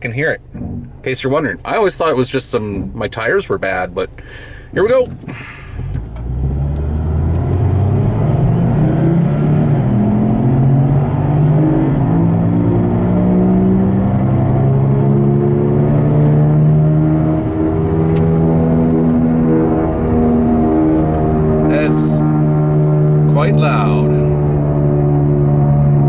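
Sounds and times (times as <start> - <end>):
loud droning hum inside car: 0.0 - 26.0.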